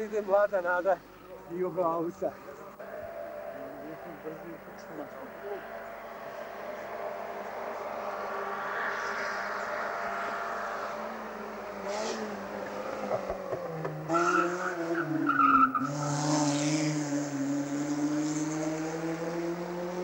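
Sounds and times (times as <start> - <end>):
race car engines revving: 2.2 - 20.0.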